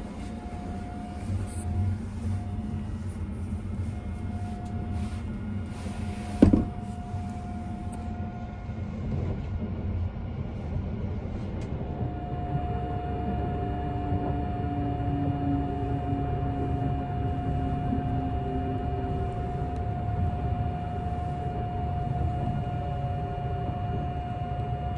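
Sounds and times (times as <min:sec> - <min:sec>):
train running low rumble: 0:00.0 - 0:24.9.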